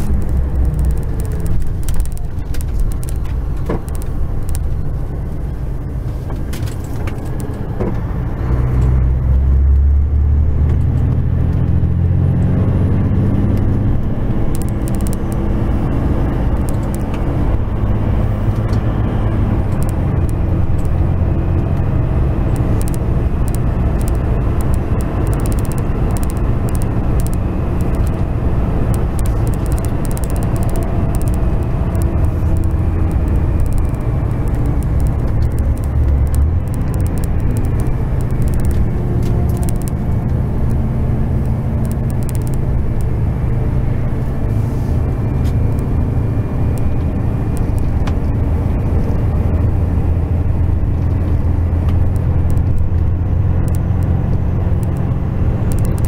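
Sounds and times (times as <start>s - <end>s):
sharp clicks and rattles: 0.0s - 56.0s
truck diesel engine droning: 0.0s - 56.0s.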